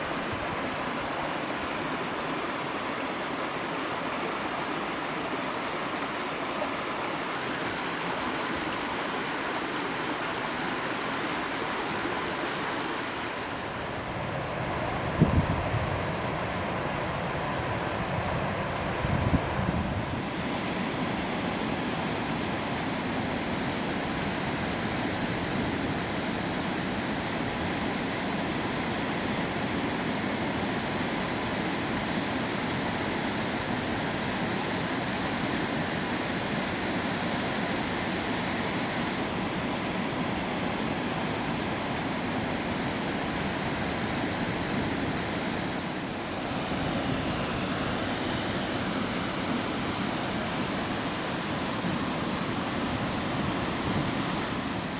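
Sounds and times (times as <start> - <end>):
waterfall rushing: 0.0 - 15.2, 20.0 - 54.9.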